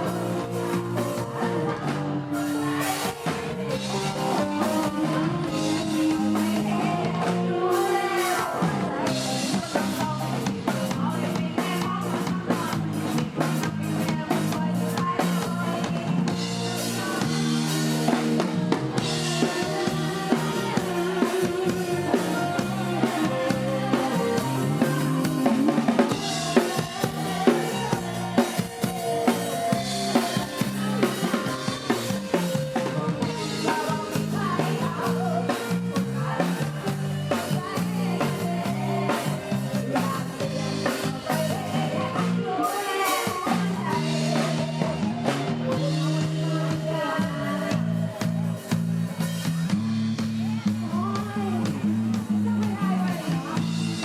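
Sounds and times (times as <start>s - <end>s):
drum kit beat: 0.0s - 54.0s
live band playing instrumental: 0.0s - 54.0s.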